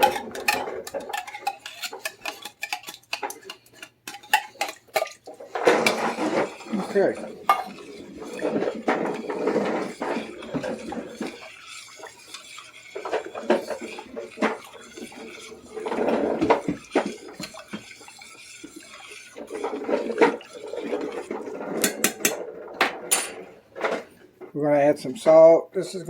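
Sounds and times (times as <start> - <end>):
spoon scraping a pot: 0.0 - 24.2.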